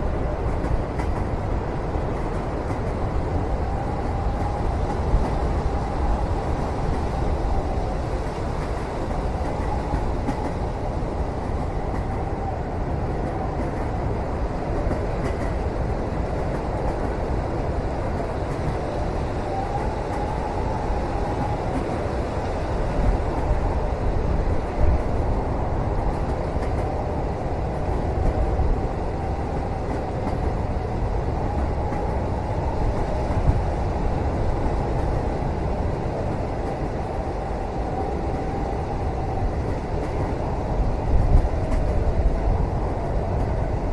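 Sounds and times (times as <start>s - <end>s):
train wheels rumbling on track: 0.0s - 43.9s.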